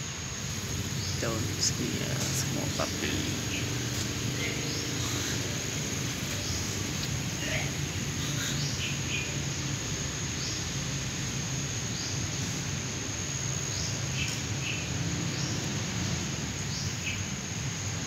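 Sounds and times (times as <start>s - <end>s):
high insect drone: 0.0s - 18.0s
low background noise: 0.0s - 18.0s.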